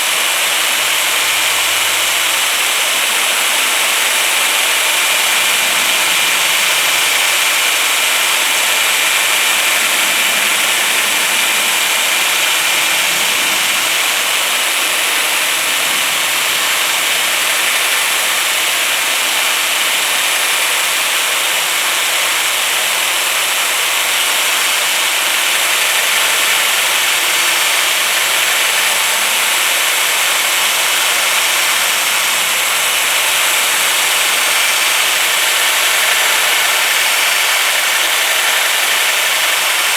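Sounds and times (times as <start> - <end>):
electric drill motor whine: 0.0 - 39.9
sanding disc hissing on metal: 0.0 - 39.9.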